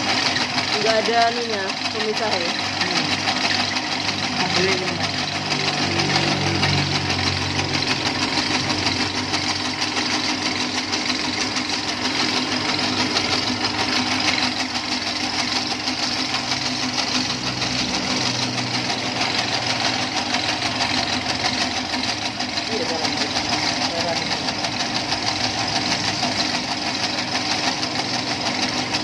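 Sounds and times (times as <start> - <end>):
noodle machine motor whirring: 0.0 - 29.0.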